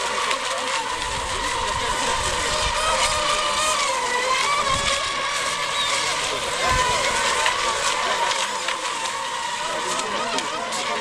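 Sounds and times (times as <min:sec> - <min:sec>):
rc boat motors whining: 0:00.0 - 0:11.0.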